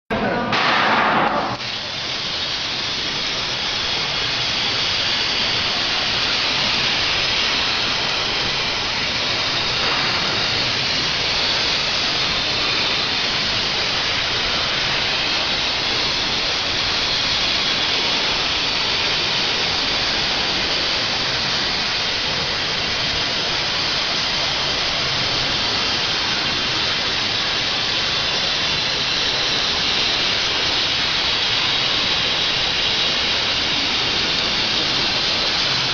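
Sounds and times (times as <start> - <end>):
plasma cutter hissing: 0.5 - 35.9.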